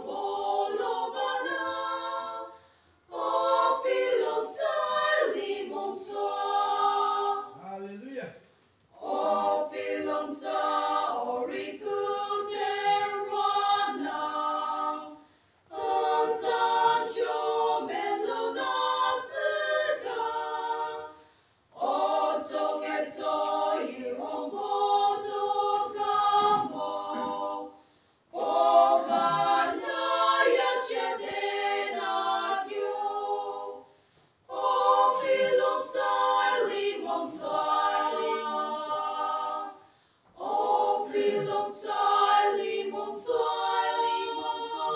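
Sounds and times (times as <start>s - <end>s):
women's choir singing a cappella: 0.0s - 7.6s, 8.9s - 44.9s.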